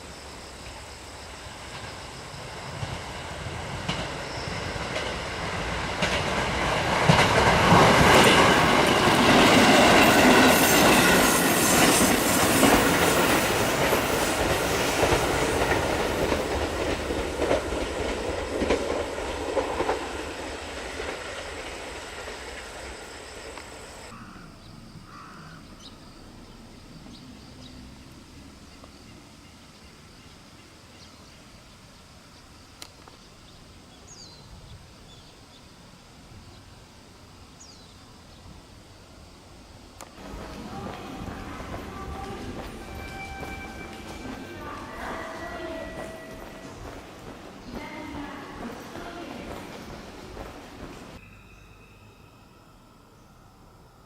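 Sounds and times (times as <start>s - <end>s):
train passing at speed: 0.0s - 24.1s, 25.7s - 32.6s, 33.6s - 54.0s.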